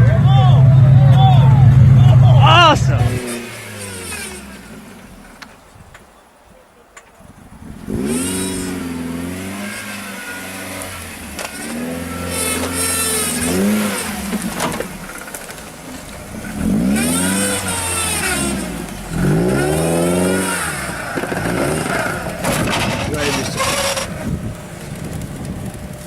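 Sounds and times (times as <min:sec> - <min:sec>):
off-road vehicle engine revving: 0:00.0 - 0:05.9, 0:07.3 - 0:26.0.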